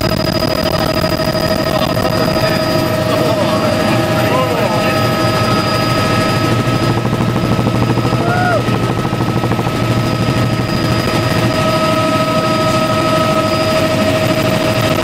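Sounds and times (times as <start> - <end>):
helicopter engine and rotor noise: 0.0 - 15.0.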